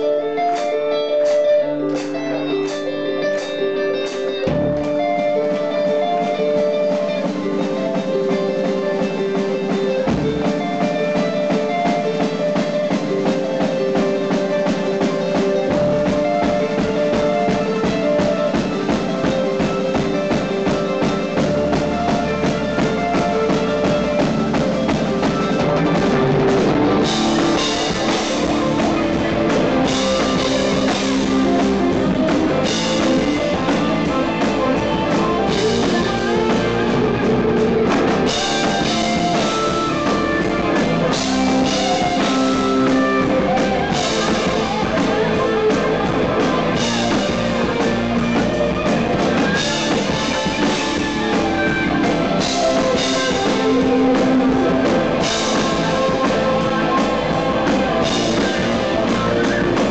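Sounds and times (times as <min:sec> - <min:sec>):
electric guitar sliding notes: 0:00.0 - 0:59.9
live rock band playing: 0:00.0 - 0:59.9.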